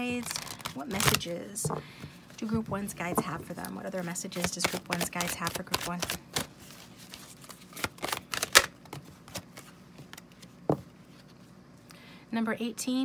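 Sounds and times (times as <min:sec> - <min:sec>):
cards being shuffled: 0:00.1 - 0:11.4.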